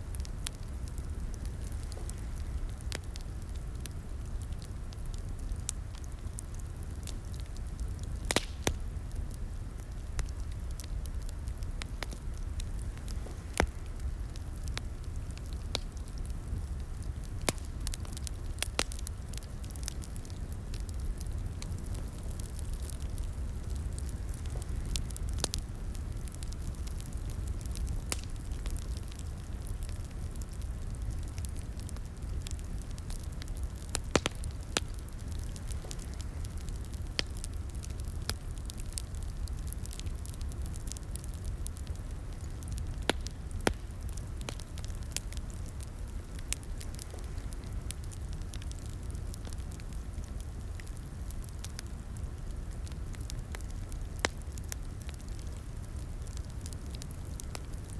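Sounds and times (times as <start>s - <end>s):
wood fire crackling: 0.0s - 57.9s
fire pops and snaps: 0.1s - 57.9s.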